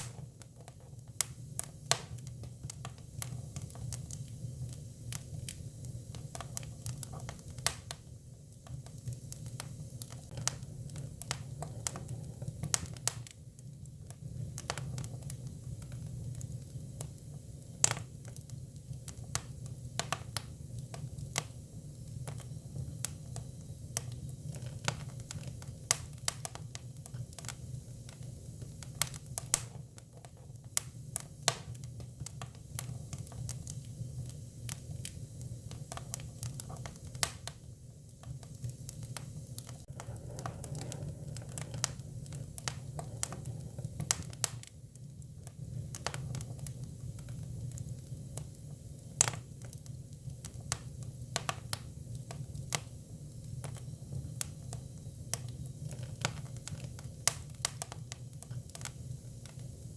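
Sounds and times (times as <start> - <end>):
firewood crackling and popping: 0.0 - 59.9
low fire rumble: 0.0 - 59.9.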